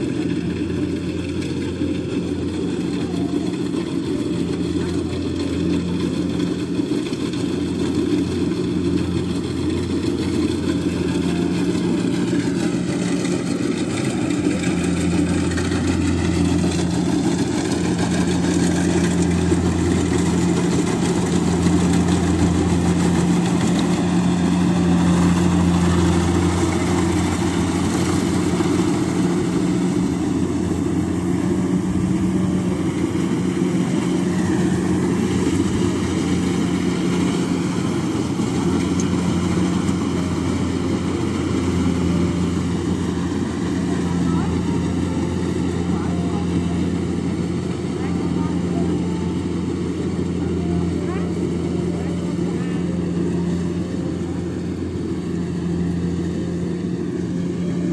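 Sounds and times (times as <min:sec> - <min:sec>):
combine harvester engine humming: 0:00.0 - 0:57.9.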